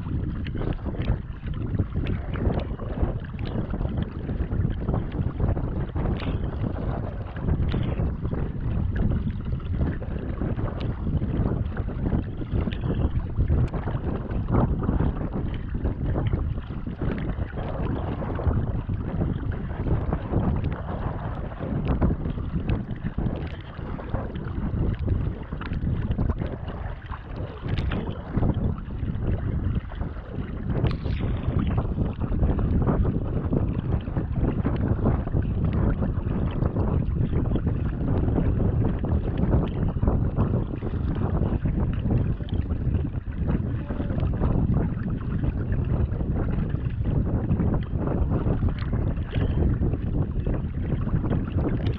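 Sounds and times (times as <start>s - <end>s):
paddle strokes splashing: 0.0s - 32.9s, 38.9s - 46.2s, 48.6s - 51.9s
choppy water against hull: 0.0s - 51.9s
wind buffeting microphone: 0.0s - 51.9s.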